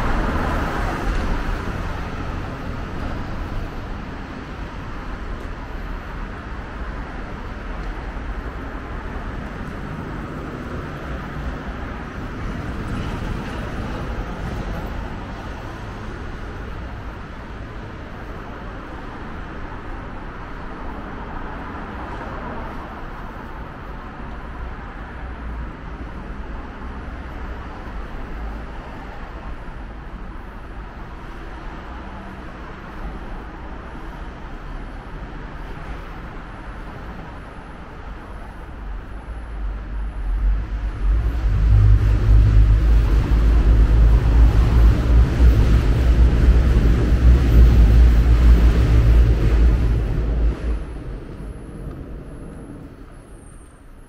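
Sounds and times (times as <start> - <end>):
train rumbling overhead: 0.0 - 54.0.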